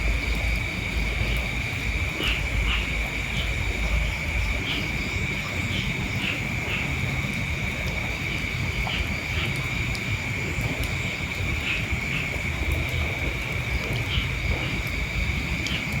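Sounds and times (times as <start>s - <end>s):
insect chirps: 0.0s - 16.0s
wind rumble on microphone: 0.0s - 16.0s.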